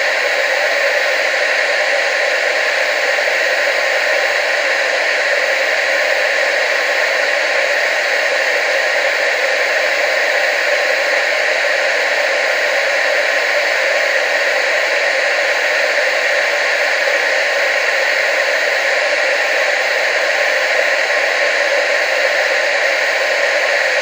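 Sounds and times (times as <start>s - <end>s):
tv static hiss: 0.0s - 24.0s.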